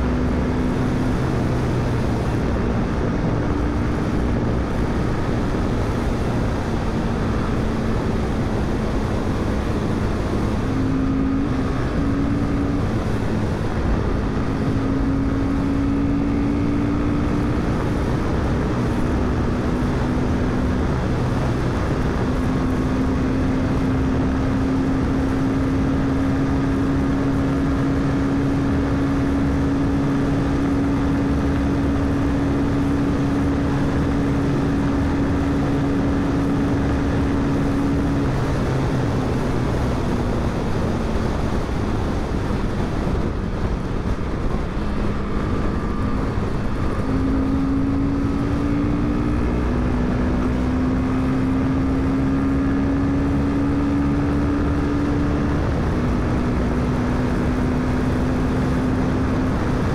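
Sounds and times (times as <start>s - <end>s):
motorcycle engine running hard: 0.0s - 59.9s
wind and road noise: 0.0s - 59.9s.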